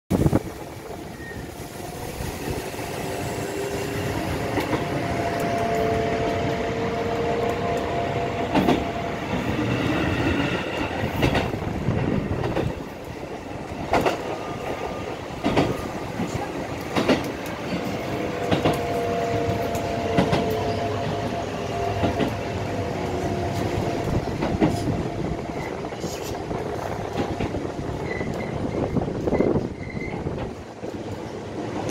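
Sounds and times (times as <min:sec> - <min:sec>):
train car running noise: 0:00.1 - 0:31.9.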